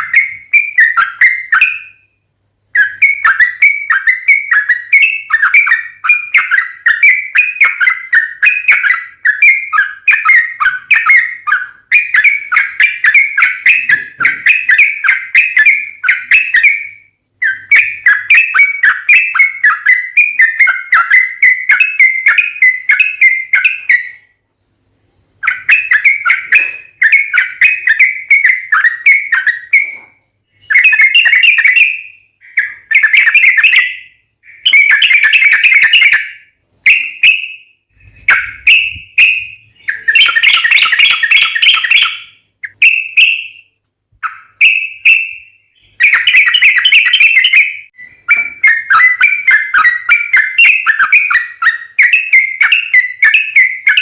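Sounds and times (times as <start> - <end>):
bird singing bubbly chirps: 0.0 - 24.4, 25.4 - 43.6, 44.2 - 54.0.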